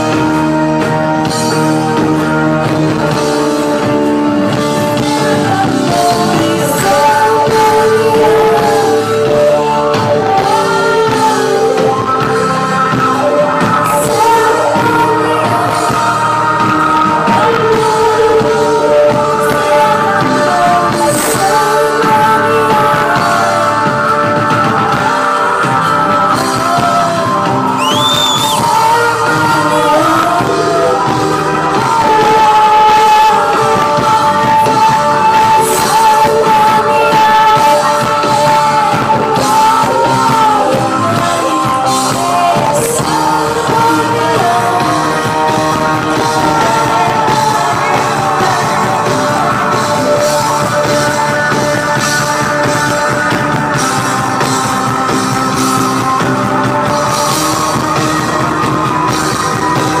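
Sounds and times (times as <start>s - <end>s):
live band playing: 0.0s - 60.0s
person singing: 0.0s - 60.0s.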